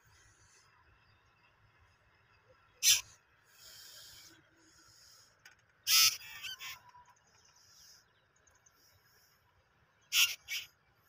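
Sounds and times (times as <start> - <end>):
birds raspy calls: 0.0 - 11.0.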